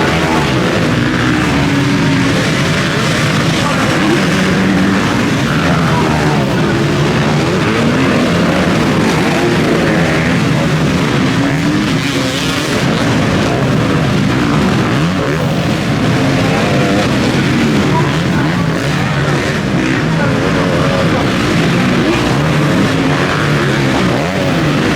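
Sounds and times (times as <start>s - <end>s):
motocross bikes revving: 0.0s - 24.9s.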